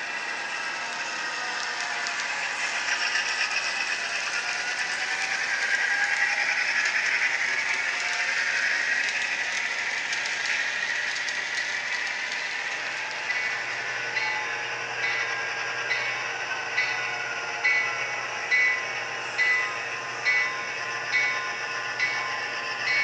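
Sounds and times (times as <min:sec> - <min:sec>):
model train motor whirring: 0:00.0 - 0:23.0
wheels ticking on rails: 0:00.0 - 0:23.0
train cars rattling: 0:01.2 - 0:23.0.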